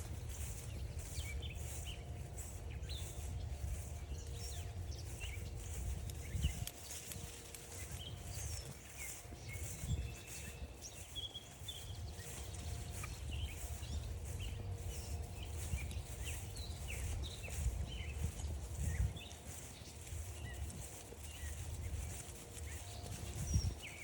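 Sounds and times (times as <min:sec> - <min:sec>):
footsteps scuffing on a trail: 0:00.0 - 0:24.0
songbirds chirping and trilling: 0:00.0 - 0:24.0.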